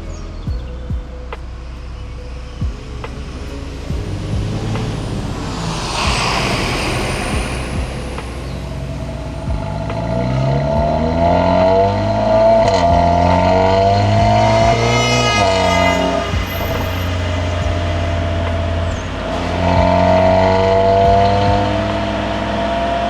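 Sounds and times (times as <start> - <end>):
car engine accelerating: 0.5 - 23.0.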